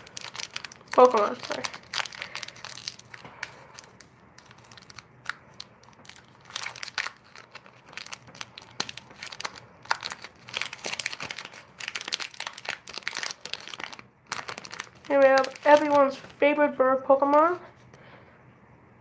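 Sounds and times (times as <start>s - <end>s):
foil wrapper crinkling and tearing: 0.0s - 16.4s.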